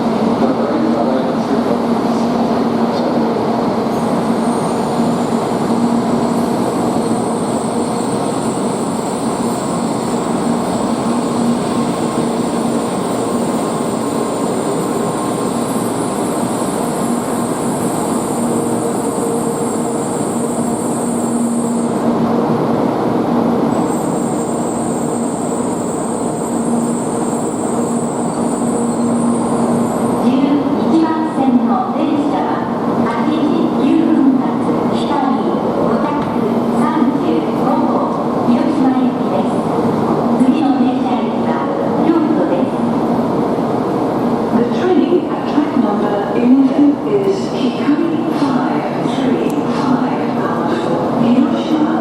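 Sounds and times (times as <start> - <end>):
high thin train whine: 0.0 - 52.0.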